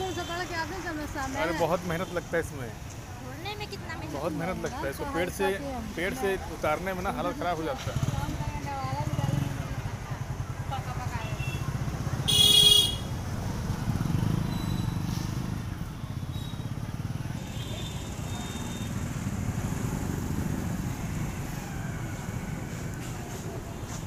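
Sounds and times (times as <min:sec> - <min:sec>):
road traffic rumble: 0:00.0 - 0:24.0
motorcycle engines running: 0:02.7 - 0:24.0.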